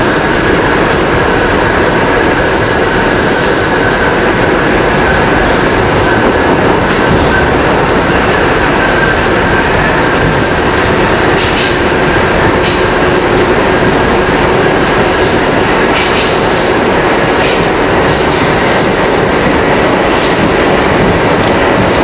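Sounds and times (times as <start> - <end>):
rail-joint clatter: 0.0 - 22.0
wheels rumbling on rail: 0.0 - 22.0.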